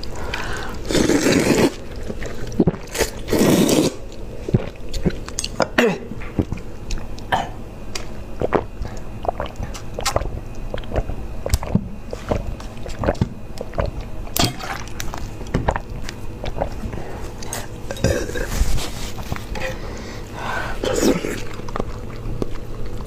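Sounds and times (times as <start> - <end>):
person gulping a drink: 0.2 - 18.6, 19.5 - 23.0.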